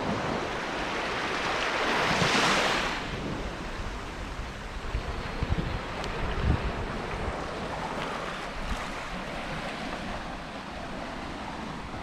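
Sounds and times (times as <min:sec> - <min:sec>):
gentle waves washing onto shore: 0:00.0 - 0:12.0.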